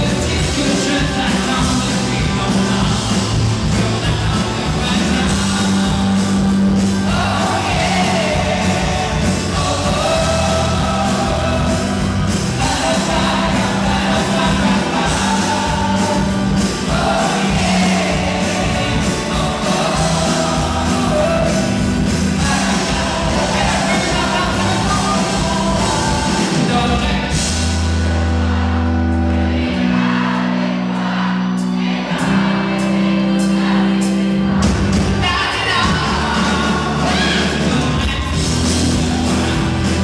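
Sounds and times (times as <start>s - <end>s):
backing vocals: 0.0s - 27.6s, 29.8s - 40.0s
man singing lead vocals: 0.0s - 27.6s, 35.2s - 40.0s
rock band playing: 0.0s - 40.0s.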